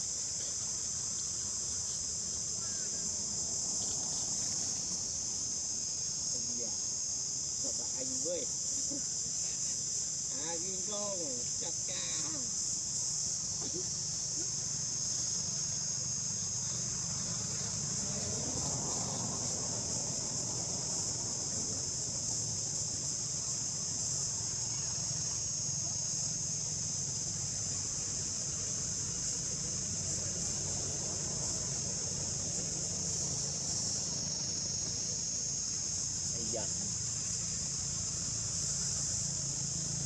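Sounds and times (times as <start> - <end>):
insect chorus drone: 0.0 - 40.0.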